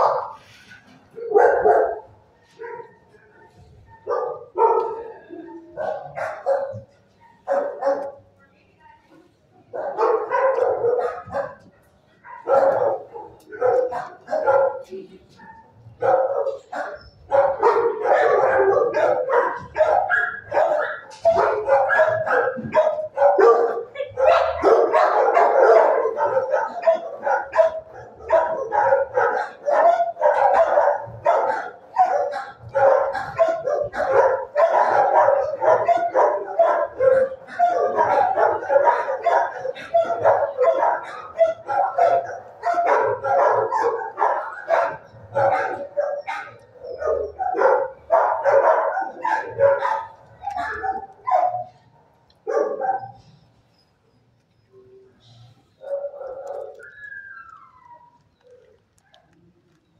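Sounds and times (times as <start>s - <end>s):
dogs barking: 0.0s - 8.4s, 9.7s - 53.5s, 55.3s - 59.4s.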